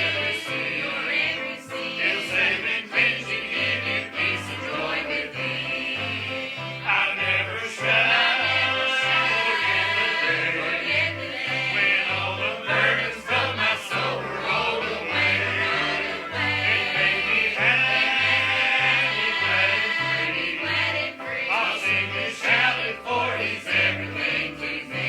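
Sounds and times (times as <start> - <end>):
choir singing gospel: 0.0 - 25.0
instrumental accompaniment: 0.0 - 25.0.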